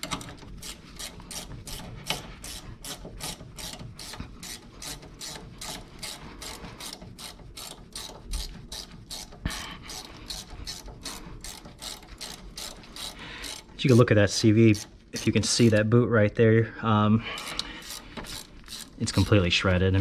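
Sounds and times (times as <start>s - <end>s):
ratchet wrench clicking: 0.0s - 15.8s, 17.4s - 19.5s.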